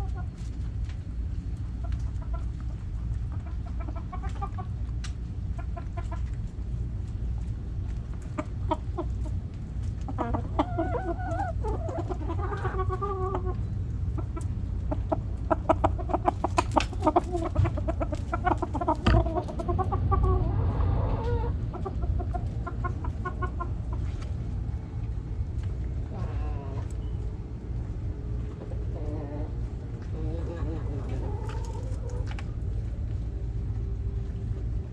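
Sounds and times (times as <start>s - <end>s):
hens clucking: 0.0s - 24.7s, 25.7s - 27.3s, 28.3s - 33.4s
low rumble: 0.0s - 34.9s.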